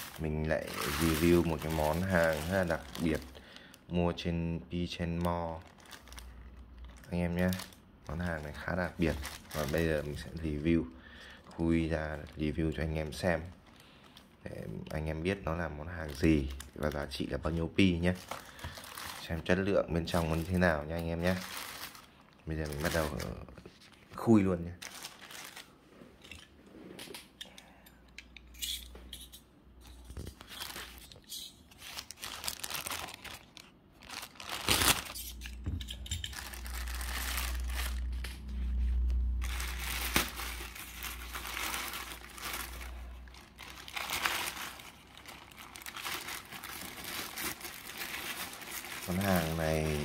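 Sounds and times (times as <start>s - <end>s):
packaging crinkling and tearing: 0.0s - 3.8s, 4.9s - 25.8s, 29.9s - 50.0s.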